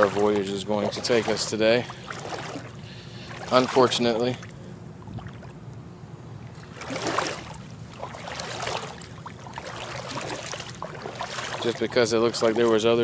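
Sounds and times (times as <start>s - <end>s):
feet wading through shallow water: 0.0s - 5.7s, 6.4s - 13.0s
water sloshing splashes: 0.0s - 13.0s.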